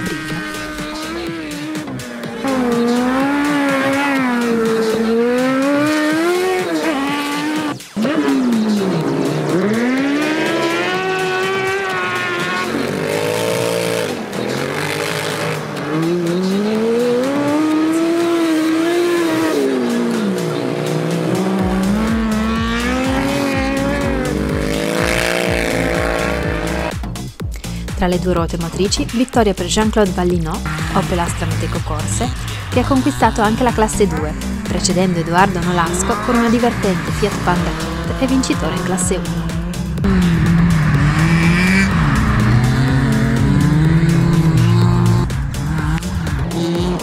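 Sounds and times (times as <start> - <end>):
racing engine revving: 0.0 - 47.0.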